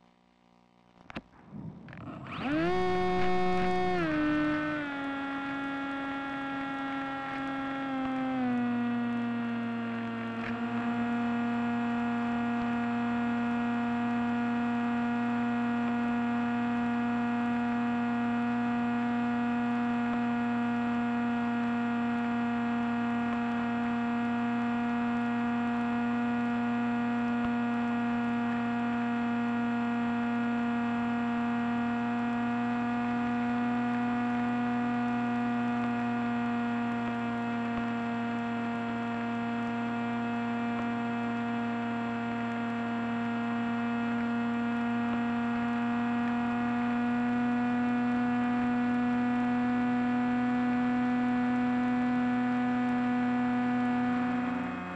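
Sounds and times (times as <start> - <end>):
electric motor and propeller whine: 1.1 - 54.9.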